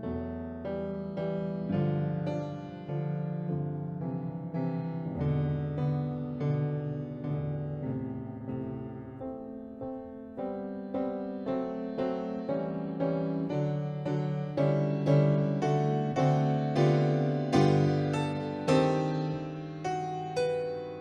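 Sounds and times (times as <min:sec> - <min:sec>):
piano chords and melody: 0:00.0 - 0:21.0.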